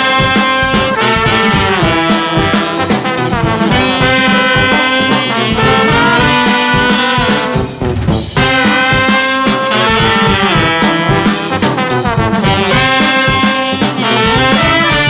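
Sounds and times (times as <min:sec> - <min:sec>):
held melodic notes: 0:00.0 - 0:15.0
steady drum beat: 0:00.0 - 0:15.0.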